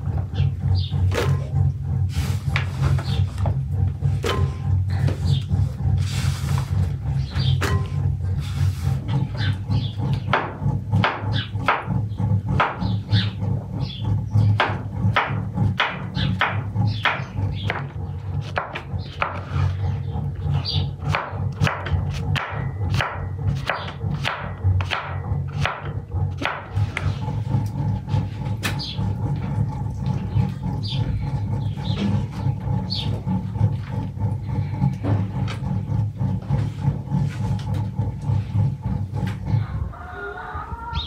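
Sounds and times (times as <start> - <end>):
birds chirping: 0.0 - 22.1, 26.8 - 41.0
steady low rumble: 0.0 - 41.0.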